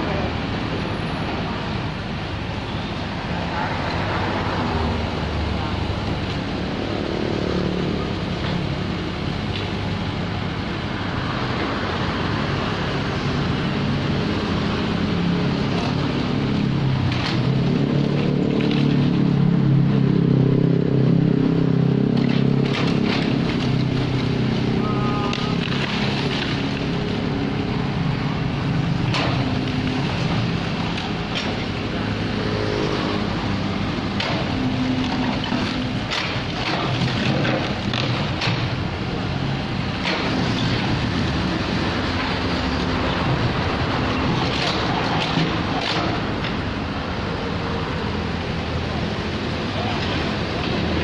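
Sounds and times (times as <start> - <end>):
diesel excavator engine running: 0.0 - 51.0.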